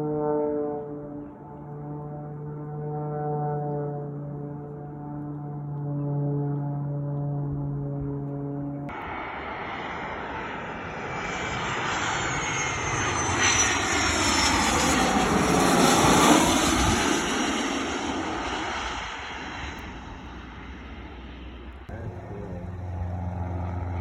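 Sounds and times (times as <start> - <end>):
airplane flying past: 0.0 - 24.0.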